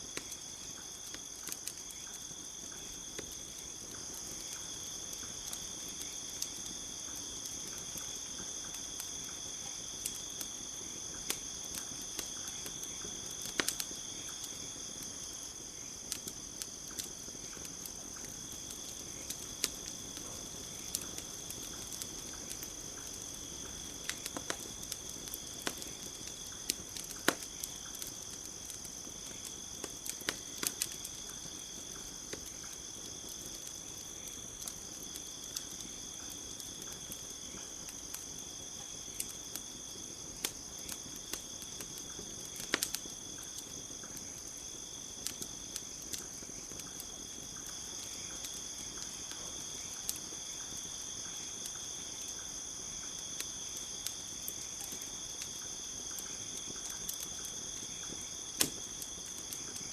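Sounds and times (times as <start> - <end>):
campfire crackling: 0.0 - 59.9
crickets chirring: 0.0 - 59.9.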